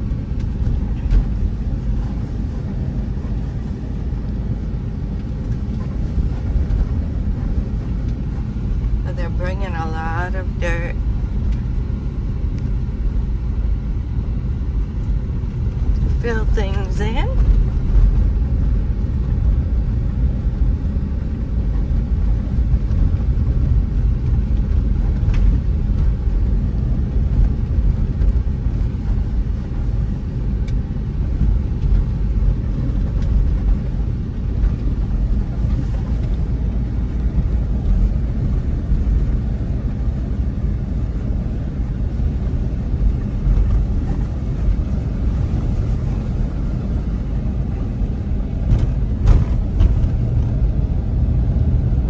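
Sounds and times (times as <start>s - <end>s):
car interior rumble: 0.0s - 52.0s.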